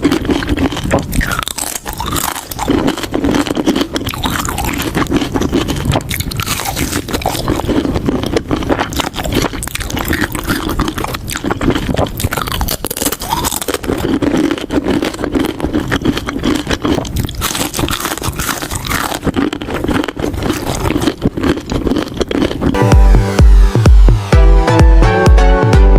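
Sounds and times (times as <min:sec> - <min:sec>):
crunchy bites and chewing: 0:00.0 - 0:22.8.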